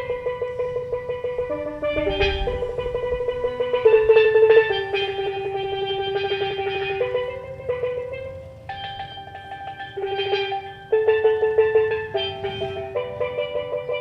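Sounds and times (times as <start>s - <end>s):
steelpan music: 0.0s - 14.0s.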